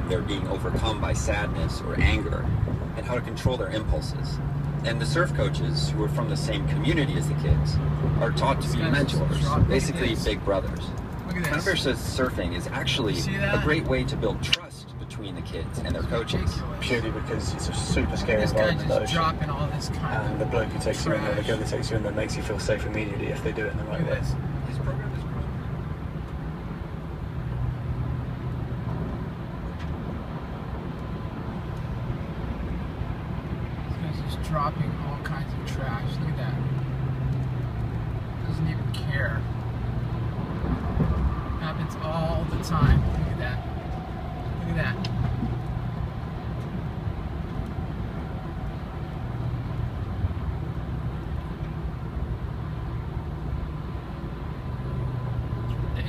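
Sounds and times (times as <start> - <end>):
car cabin road hum: 0.0 - 56.0.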